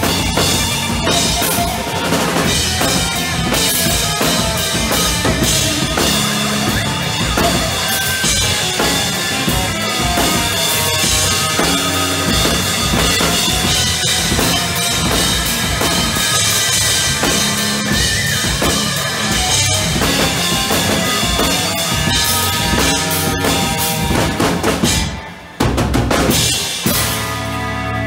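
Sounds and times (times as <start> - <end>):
bass drum: 0.0 - 27.3
bass guitar: 0.0 - 28.0
electric guitar: 0.0 - 28.0.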